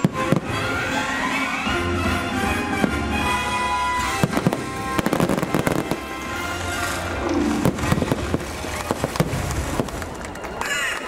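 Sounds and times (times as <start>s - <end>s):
fireworks bangs: 0.0s - 10.7s
show music: 0.0s - 11.0s.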